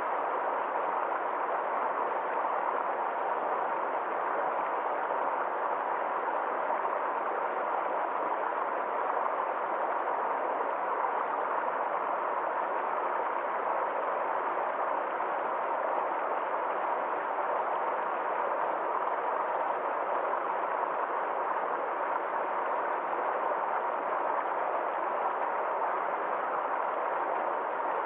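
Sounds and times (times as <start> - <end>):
stream flowing: 0.0 - 28.0.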